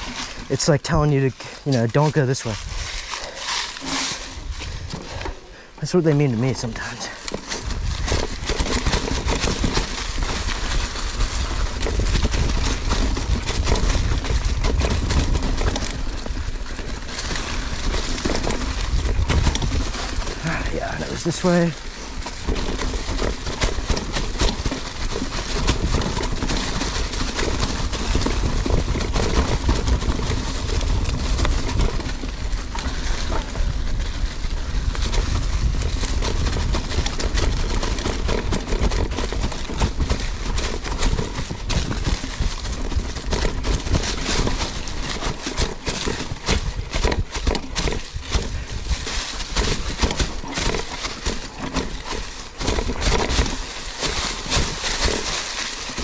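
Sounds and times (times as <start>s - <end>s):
bike chain and frame clatter: 0.0s - 56.0s.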